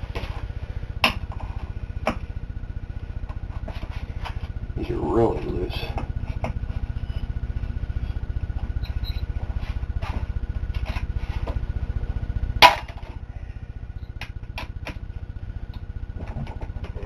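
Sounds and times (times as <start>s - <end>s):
pulsing low machine hum: 0.0s - 17.0s.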